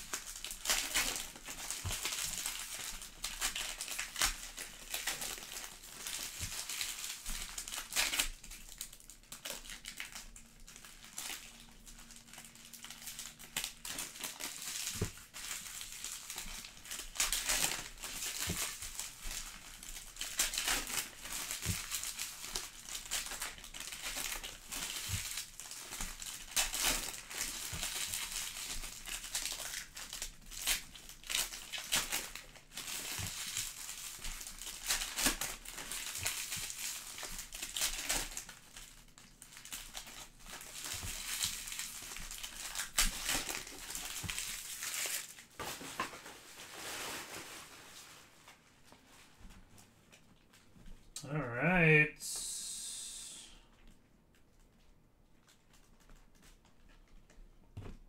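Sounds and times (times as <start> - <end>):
foil wrappers tearing and crinkling: 0.0 - 48.4.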